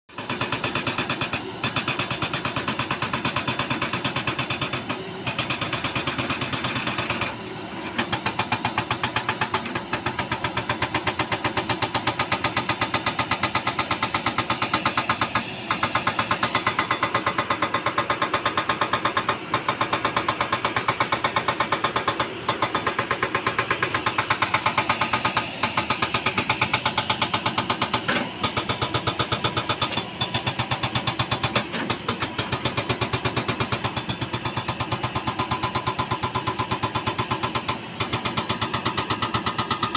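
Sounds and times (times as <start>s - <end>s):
construction machine hammering: 0.1s - 39.9s.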